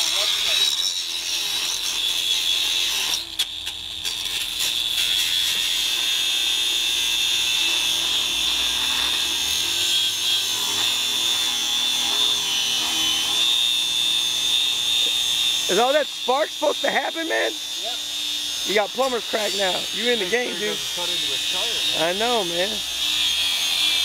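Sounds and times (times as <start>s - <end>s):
angle grinder cutting metal: 0.0s - 24.0s.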